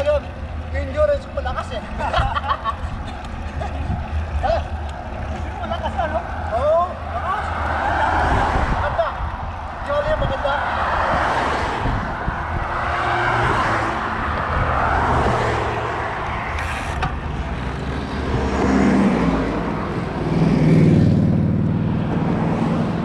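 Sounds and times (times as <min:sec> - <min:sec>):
bicycle road noise: 0:00.0 - 0:23.0
car engine hum: 0:00.0 - 0:23.0
rushing wind: 0:01.4 - 0:23.0.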